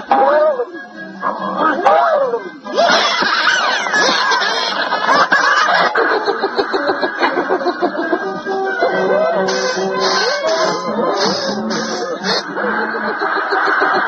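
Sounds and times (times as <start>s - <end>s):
voices cackling and shrieking: 0.0s - 14.0s.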